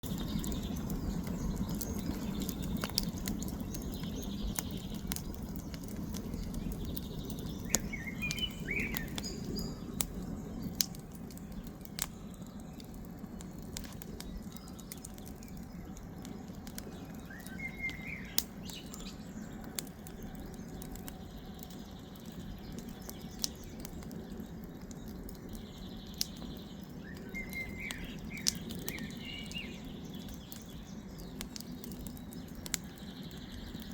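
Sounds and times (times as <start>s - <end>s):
campfire crackling: 0.0s - 33.9s.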